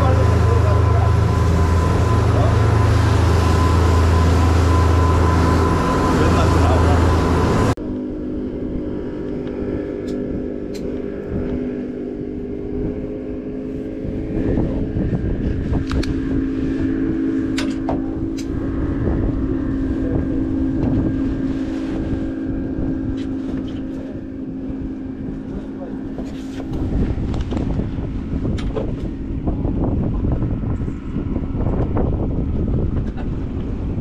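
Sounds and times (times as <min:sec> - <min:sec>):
boat engine droning: 0:00.0 - 0:34.0
wind on microphone: 0:00.0 - 0:34.0.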